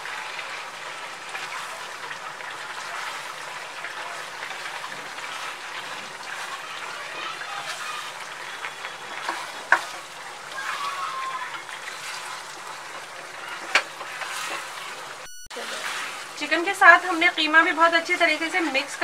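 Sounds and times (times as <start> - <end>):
chicken sizzling in a frying pan: 0.0 - 19.0
spatula scraping a pan: 0.2 - 19.0.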